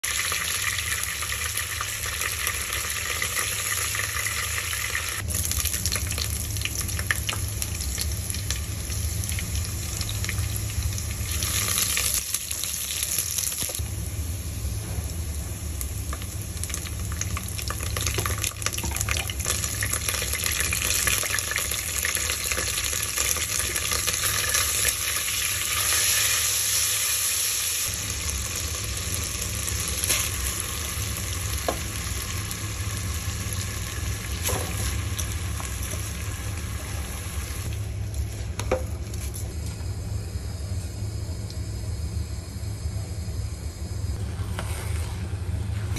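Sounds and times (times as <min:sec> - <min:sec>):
food sizzling in hot oil: 0:00.0 - 0:37.7.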